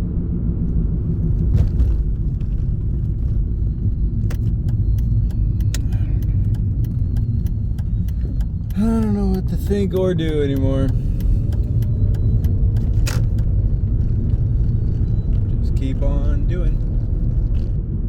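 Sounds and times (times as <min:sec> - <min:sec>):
car road rumble inside cabin: 0:00.0 - 0:18.0.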